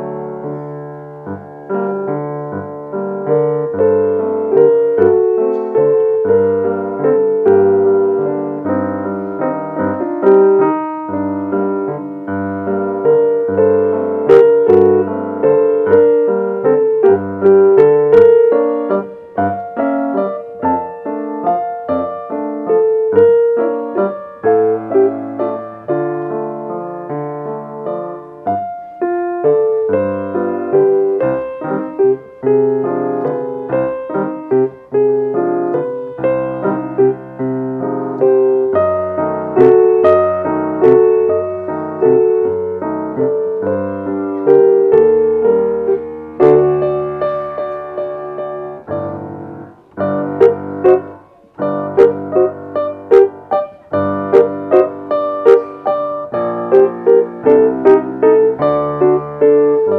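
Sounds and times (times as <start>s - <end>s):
solo classical piano: 0.0s - 59.9s.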